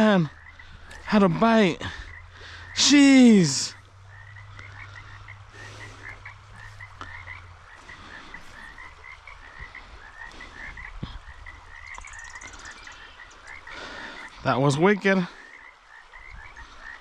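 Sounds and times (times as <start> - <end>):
low steady hum: 0.0 - 14.1
high animal calls: 0.0 - 14.3.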